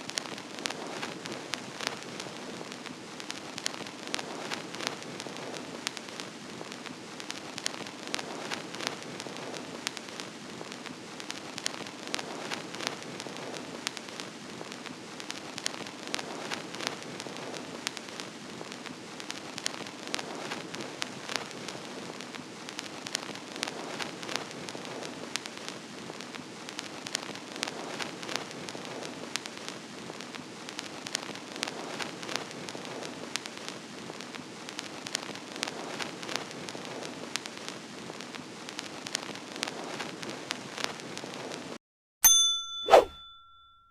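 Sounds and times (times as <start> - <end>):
vinyl record crackle and hiss: 0.0 - 41.8.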